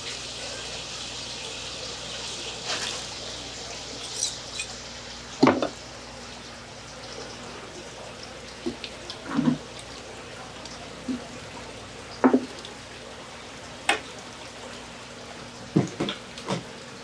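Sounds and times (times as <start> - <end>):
steady hiss of water: 0.0 - 17.0.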